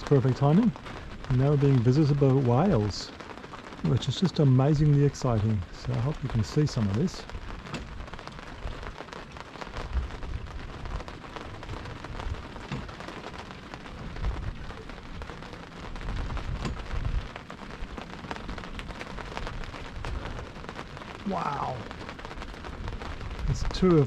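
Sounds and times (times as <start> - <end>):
low rumbles: 0.0 - 24.0
steady rain: 0.0 - 24.0.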